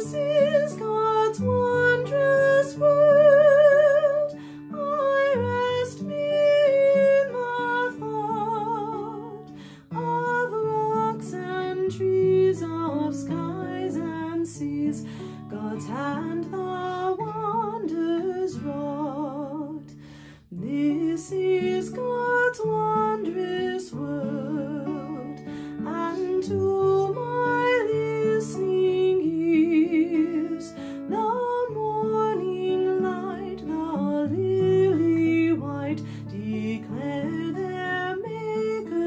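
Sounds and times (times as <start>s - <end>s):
woman singing a hymn: 0.0s - 19.9s, 20.5s - 39.0s
acoustic guitar: 0.0s - 39.0s.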